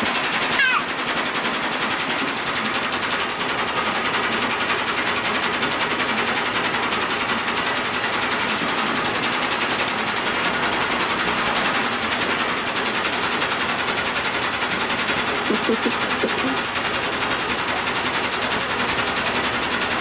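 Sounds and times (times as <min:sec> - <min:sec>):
washing machine rattling: 0:00.0 - 0:20.0.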